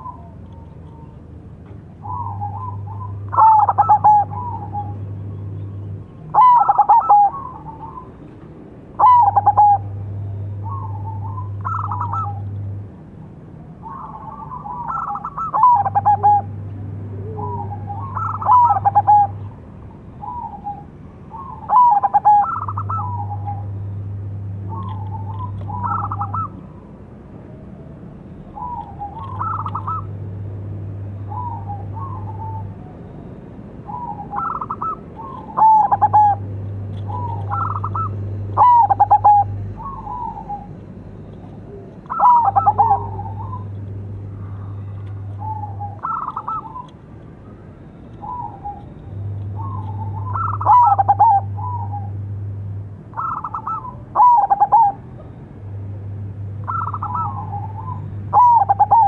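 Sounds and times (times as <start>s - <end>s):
low steady hum: 0.0s - 59.0s
dove cooing: 1.9s - 5.2s, 6.2s - 8.4s, 9.0s - 12.8s, 13.7s - 27.0s, 28.4s - 33.2s, 33.8s - 47.0s, 48.2s - 52.4s, 53.1s - 55.5s, 56.2s - 59.0s.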